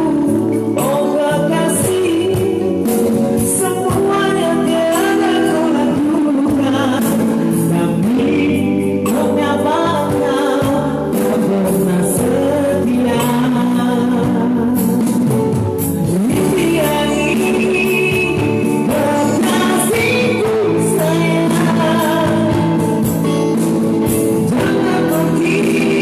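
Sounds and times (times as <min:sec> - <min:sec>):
instrumental backing music: 0:00.0 - 0:26.0
man singing: 0:00.0 - 0:26.0.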